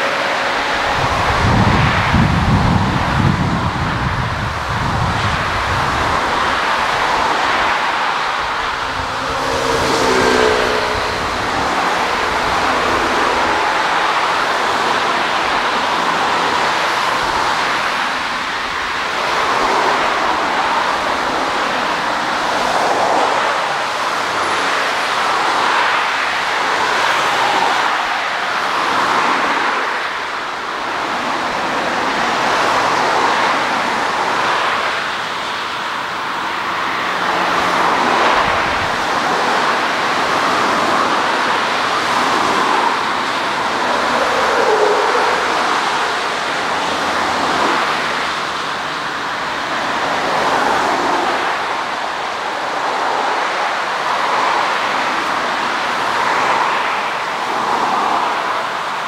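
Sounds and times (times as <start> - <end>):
jet engines rushing: 0.0 - 28.2, 28.8 - 58.5.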